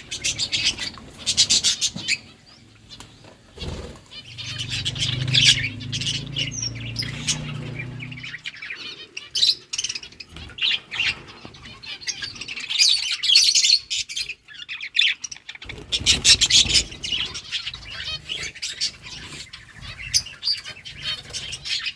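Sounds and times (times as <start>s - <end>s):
budgerigars chirping: 0.0s - 21.9s.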